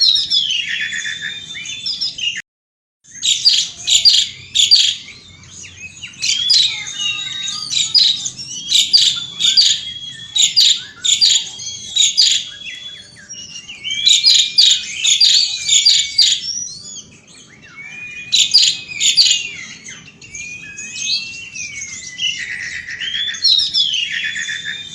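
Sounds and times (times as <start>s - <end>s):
starling singing: 0.0s - 2.4s, 3.1s - 24.9s.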